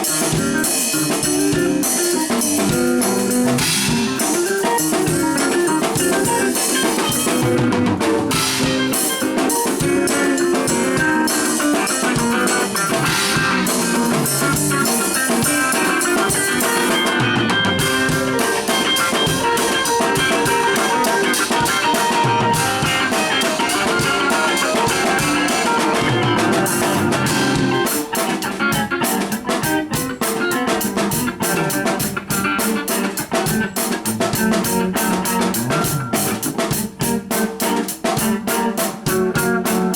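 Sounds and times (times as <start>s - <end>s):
drums and guitar music: 0.0s - 39.9s.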